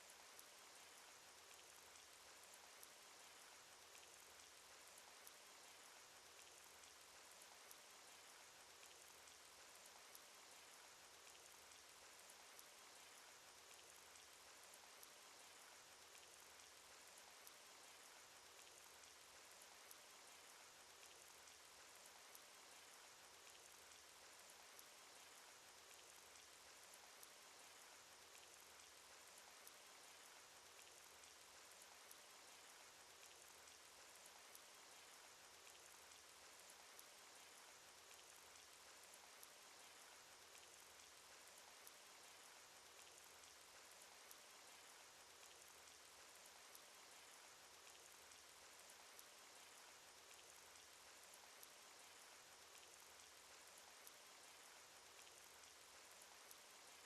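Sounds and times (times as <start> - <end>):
rain pattering: 0.0 - 57.0
raindrop ticks: 0.0 - 57.0.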